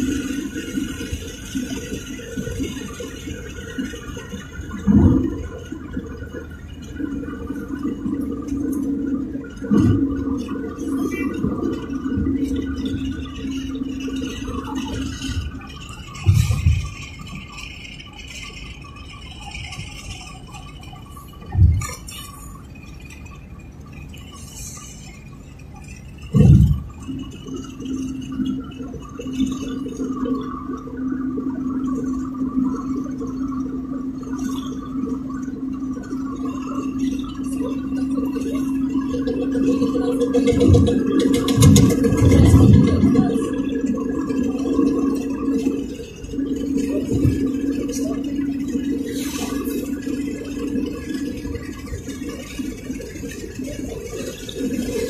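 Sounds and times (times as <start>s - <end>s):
car rumble: 0.0s - 55.0s
steady low hum: 0.0s - 55.0s.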